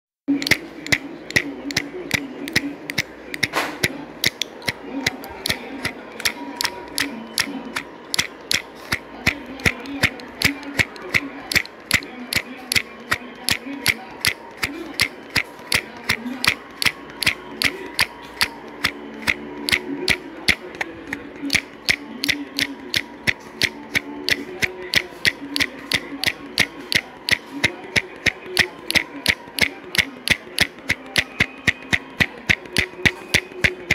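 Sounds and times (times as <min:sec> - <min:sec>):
mechanical ticking clicks: 0:00.3 - 0:33.9.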